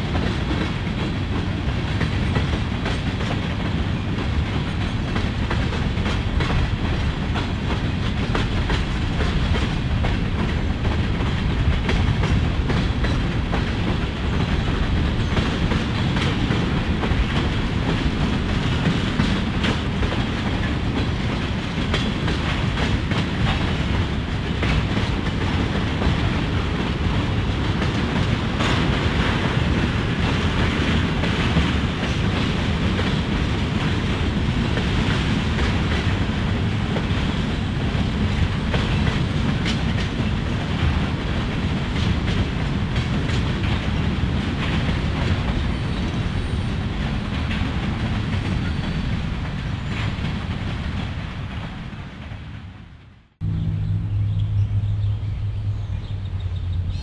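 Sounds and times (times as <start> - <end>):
wheels clicking over rail joints: 0.0 - 52.4
freight train rumble: 0.0 - 57.0.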